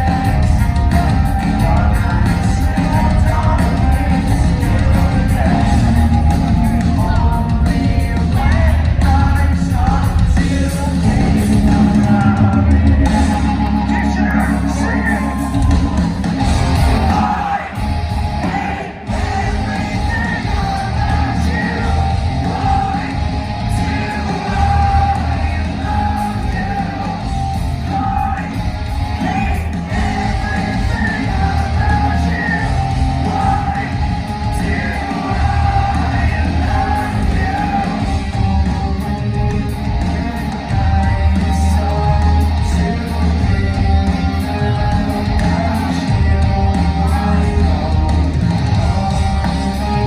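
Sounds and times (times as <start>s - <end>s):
bass guitar: 0.0s - 50.0s
drums: 0.0s - 50.0s
electric guitars: 0.0s - 50.0s.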